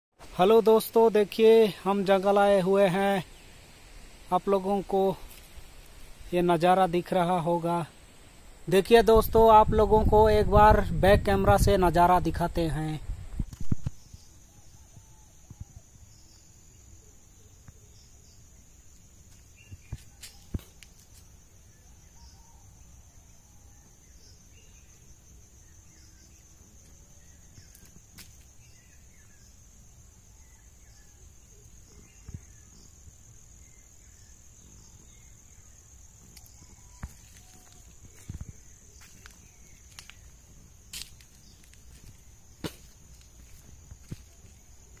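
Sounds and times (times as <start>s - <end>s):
high-pitched insect trill: 0.4s - 45.0s.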